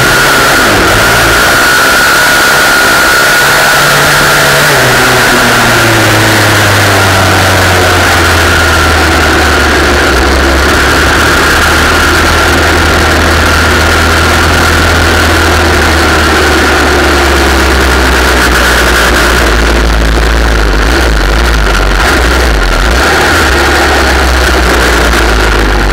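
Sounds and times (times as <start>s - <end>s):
vehicle engine running: 0.0s - 25.9s
wind rushing over microphone: 0.0s - 25.9s.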